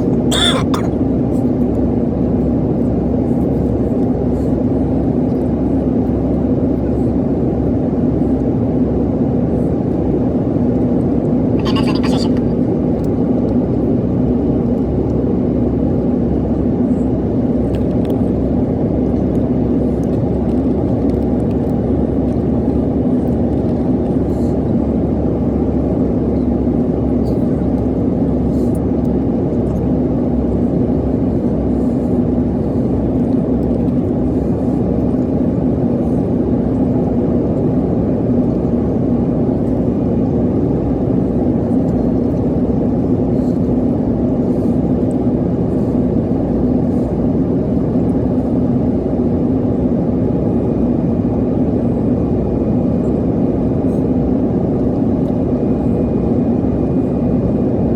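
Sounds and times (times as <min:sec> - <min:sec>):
airliner cabin engine drone: 0:00.0 - 0:57.9
constant hum: 0:00.0 - 0:57.9.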